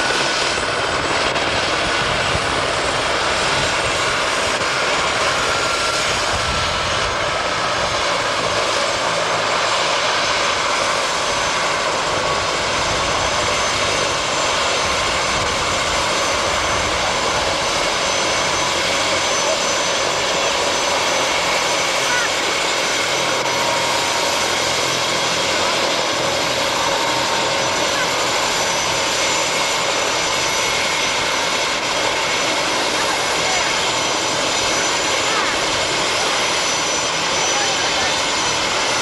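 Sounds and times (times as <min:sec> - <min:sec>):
helicopter turbine and rotor rush: 0:00.0 - 0:39.0.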